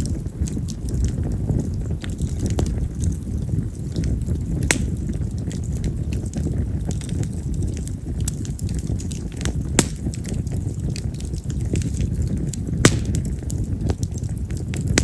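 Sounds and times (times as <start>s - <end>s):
firewood crackling and popping: 0.0s - 15.0s
low rush of flame: 0.0s - 15.0s.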